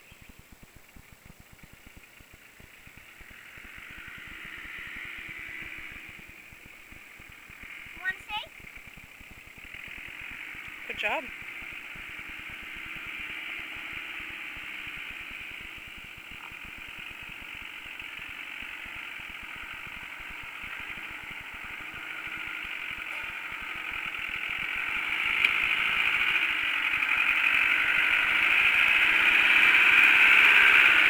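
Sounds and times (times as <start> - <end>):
engine running at low revs: 0.0 - 31.0.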